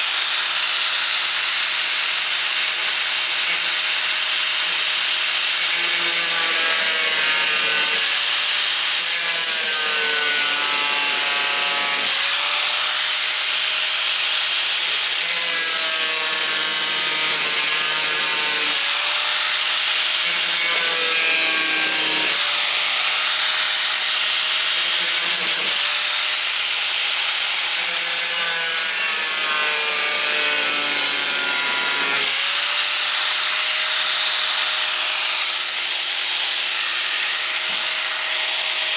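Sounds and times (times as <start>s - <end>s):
angle grinder cutting sheet metal: 0.0s - 38.9s.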